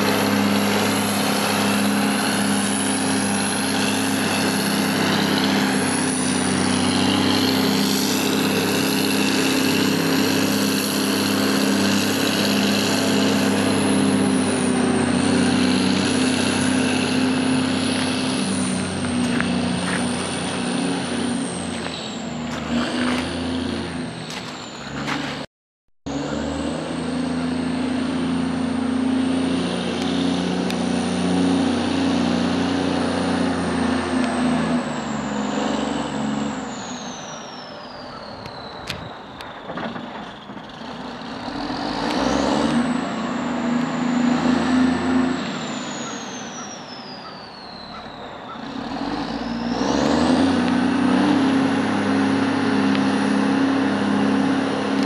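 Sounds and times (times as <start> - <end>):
diesel engine running: 0.0 - 25.5, 26.1 - 55.0
high engine whine: 0.0 - 55.0.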